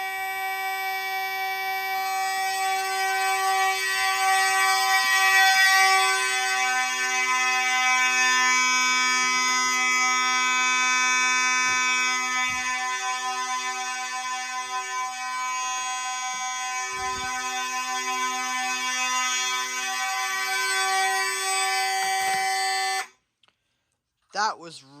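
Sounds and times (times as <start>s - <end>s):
fire alarm horns buzzing: 0.0s - 23.2s.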